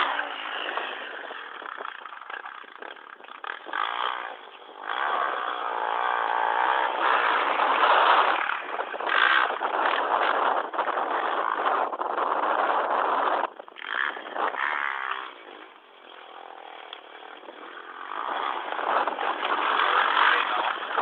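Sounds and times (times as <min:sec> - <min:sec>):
motocross engine revving: 0:00.0 - 0:21.0.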